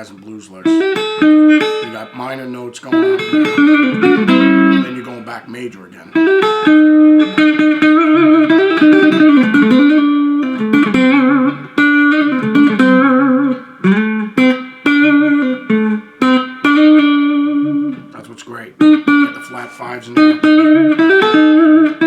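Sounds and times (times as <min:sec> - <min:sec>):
electric guitar picking lick: 0:00.0 - 0:22.0.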